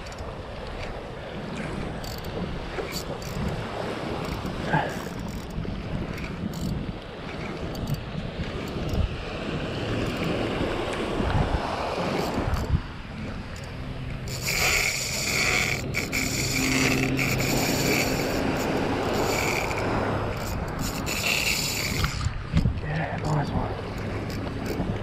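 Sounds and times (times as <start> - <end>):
fishing reel whirring: 0.0 - 22.4, 23.2 - 25.0
small waves: 0.0 - 25.0
wind buffeting microphone: 0.0 - 25.0.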